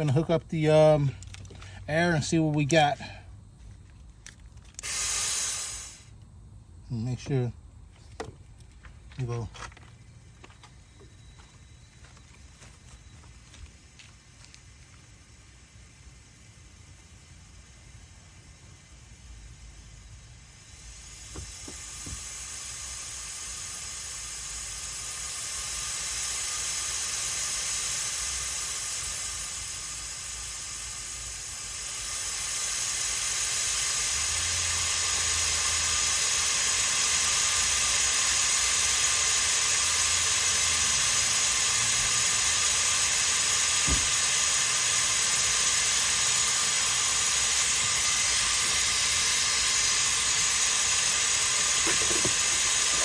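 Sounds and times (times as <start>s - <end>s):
compressed air hissing: 0.0s - 3.8s, 4.7s - 6.2s, 10.0s - 53.0s.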